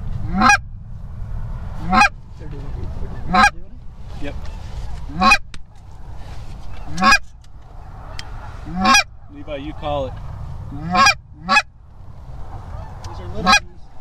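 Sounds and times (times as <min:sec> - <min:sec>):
faint honking: 0:00.0 - 0:14.0
goose honking: 0:00.2 - 0:00.6, 0:01.8 - 0:14.0.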